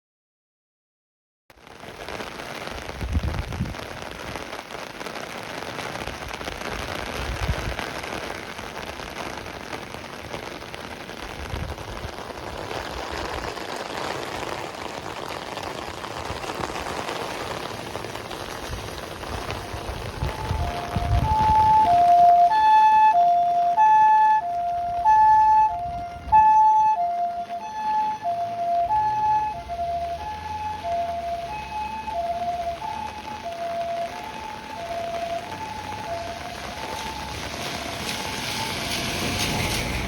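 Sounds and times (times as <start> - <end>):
heavy rain: 1.5 - 40.0.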